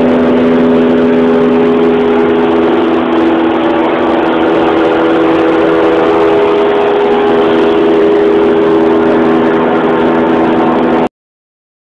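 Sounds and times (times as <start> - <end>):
light airplane engine drone: 0.0 - 11.1.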